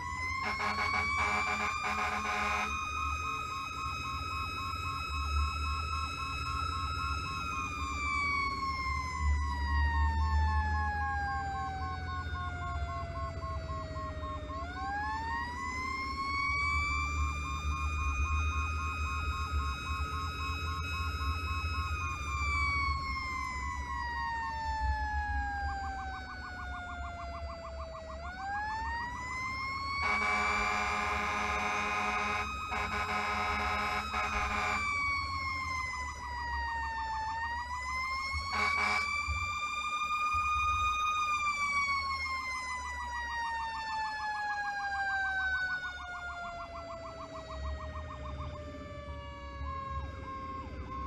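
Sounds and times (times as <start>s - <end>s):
truck engine drone: 0.0s - 15.2s, 16.1s - 43.2s
wailing siren: 0.0s - 51.0s.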